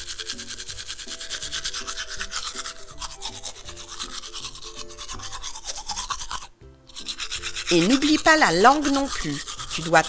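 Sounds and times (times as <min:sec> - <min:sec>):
light background music: 0:00.0 - 0:10.0
toy toothbrush scrubbing clay: 0:00.0 - 0:10.0.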